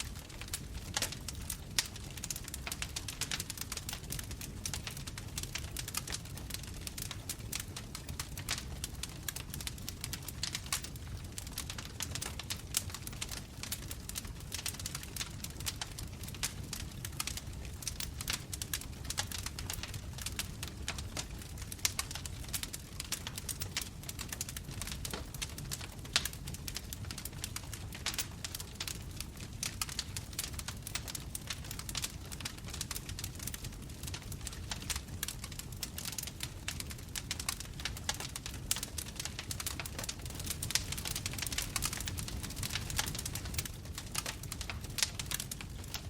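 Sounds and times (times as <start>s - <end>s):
rumble of bonfire flames: 0.0s - 46.0s
wood crackling and popping: 0.0s - 46.0s.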